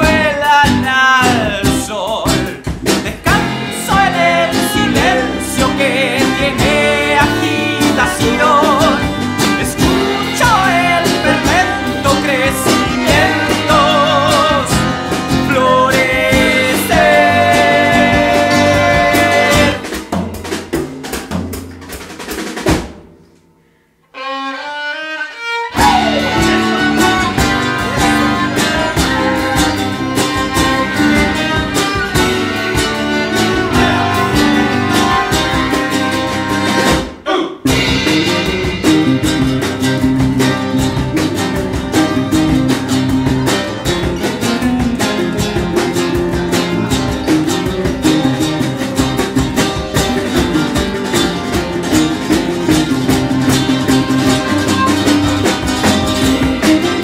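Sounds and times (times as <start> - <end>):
folk-rock band playing: 0.0 - 23.2, 24.2 - 57.0.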